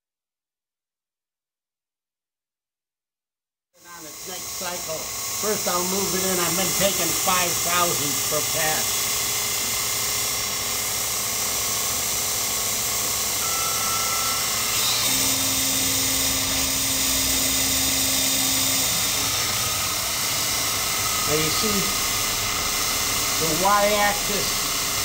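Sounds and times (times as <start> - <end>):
grinding wheel hissing: 3.8 - 25.0
motor hum: 3.8 - 25.0.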